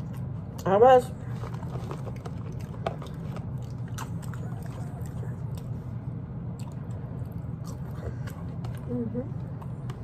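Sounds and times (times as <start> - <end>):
chewing and mouth sounds: 0.0 - 10.0
steady low hum: 0.0 - 10.0.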